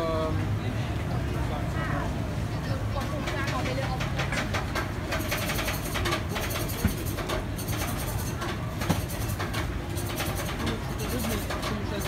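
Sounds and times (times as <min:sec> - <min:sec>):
busy street market din: 0:00.0 - 0:12.0.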